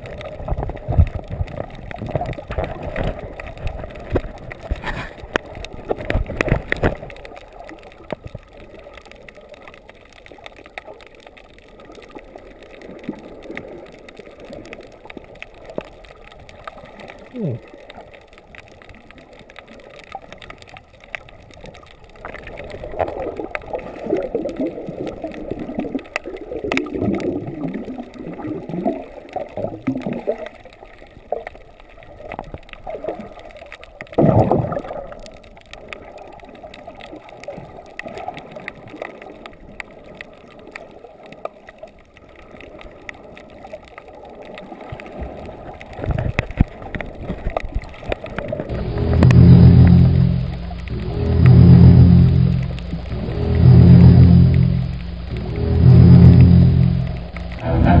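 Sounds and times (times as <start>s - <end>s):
rush of water: 0.0s - 58.0s
underwater gurgling and bubbling: 0.0s - 58.0s.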